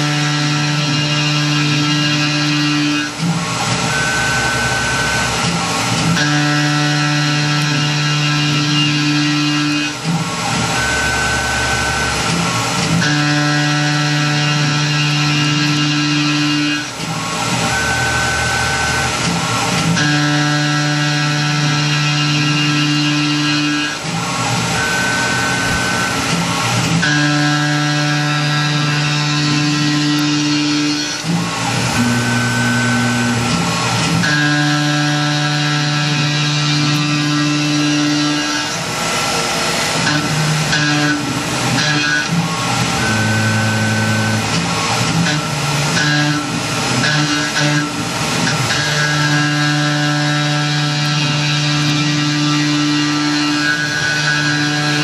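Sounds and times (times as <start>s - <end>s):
milling machine cutting metal: 0.0s - 55.0s.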